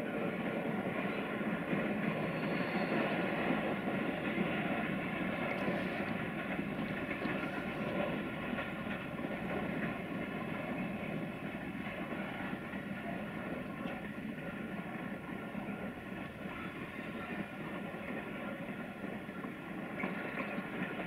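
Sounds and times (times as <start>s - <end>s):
distant freight train rumbling: 0.0s - 21.0s.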